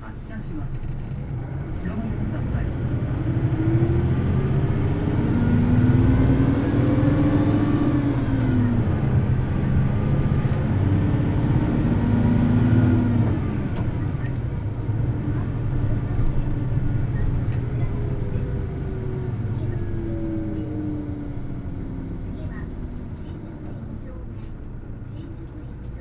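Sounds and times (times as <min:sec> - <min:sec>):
diesel bus engine revving: 0:00.0 - 0:26.0.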